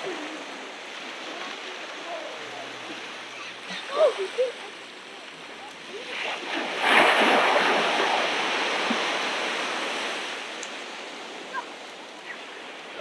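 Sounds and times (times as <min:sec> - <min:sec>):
ocean wave breaking: 0:00.0 - 0:13.0.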